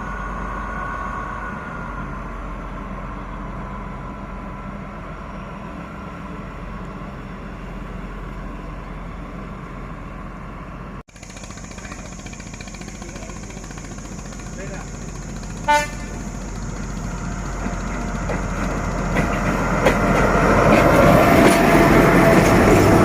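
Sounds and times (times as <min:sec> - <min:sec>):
locomotive engine rumble: 0:00.0 - 0:23.0.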